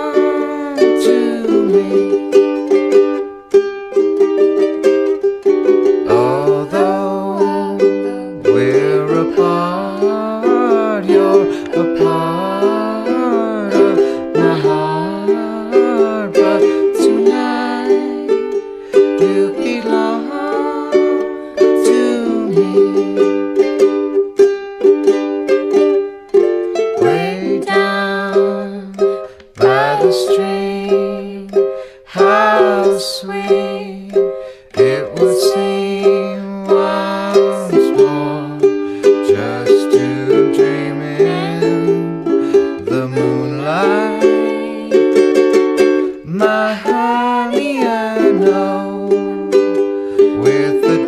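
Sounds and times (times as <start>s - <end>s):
slow ukulele song: 0.0s - 51.0s.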